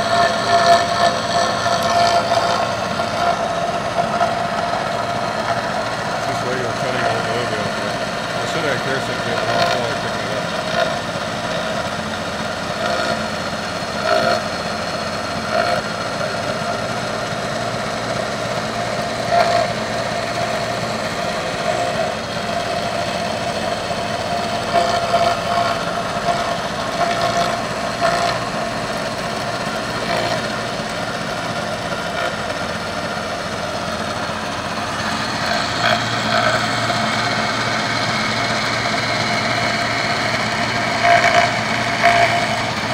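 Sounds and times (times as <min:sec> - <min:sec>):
milling machine cutting whine: 0:00.0 - 0:42.9.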